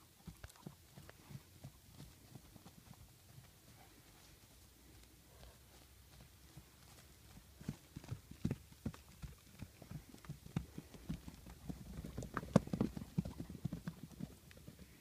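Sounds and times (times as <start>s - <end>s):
hoofbeats on dirt: 0.0s - 15.0s.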